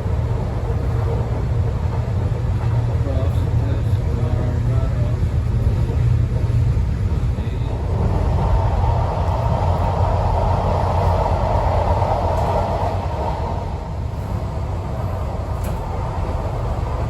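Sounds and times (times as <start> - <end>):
train carriage low rumble: 0.0 - 17.0.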